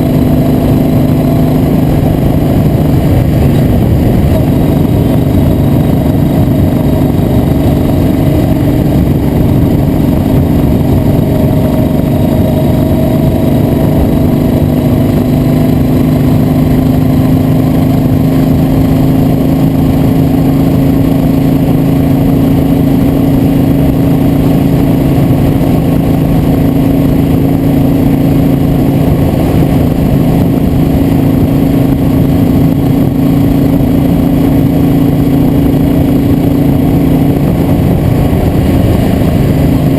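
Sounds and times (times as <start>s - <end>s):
vehicle engine running: 0.0s - 39.9s
wind and road noise: 0.0s - 39.9s.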